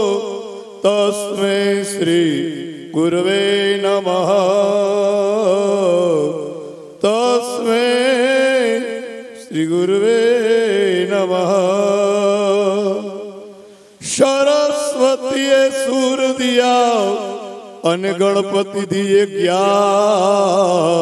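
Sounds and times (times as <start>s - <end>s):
man chanting into a microphone: 0.0s - 21.0s.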